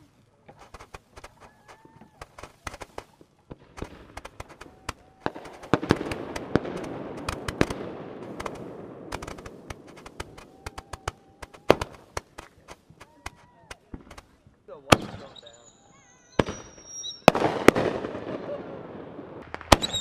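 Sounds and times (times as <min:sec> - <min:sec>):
fireworks popping and crackling: 0:00.0 - 0:20.0.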